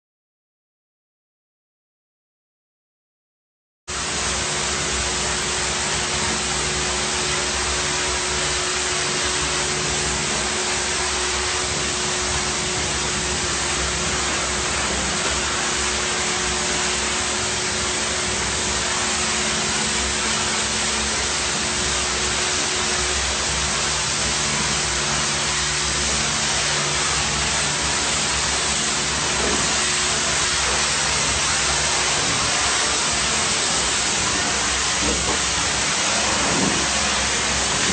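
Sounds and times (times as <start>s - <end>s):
low machine hum: 3.9s - 37.9s
steam cleaner hissing: 3.9s - 37.9s.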